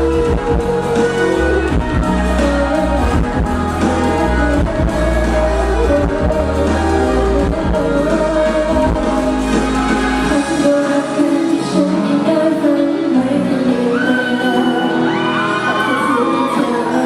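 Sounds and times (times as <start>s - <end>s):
pop backing music: 0.0s - 17.0s
woman singing: 0.0s - 17.0s.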